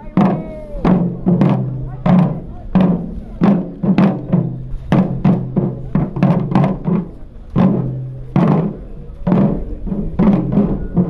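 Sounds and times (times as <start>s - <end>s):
drum beaten in quick rhythm: 0.0s - 11.0s.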